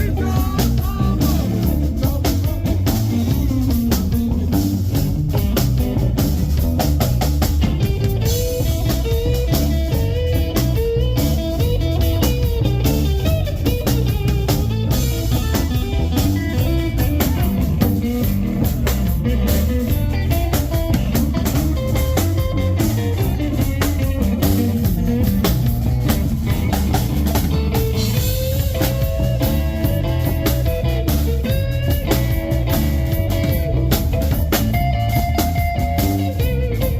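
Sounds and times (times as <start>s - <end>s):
bass: 0.0s - 36.9s
drum kit beat: 0.0s - 36.9s
guitar: 0.0s - 36.9s.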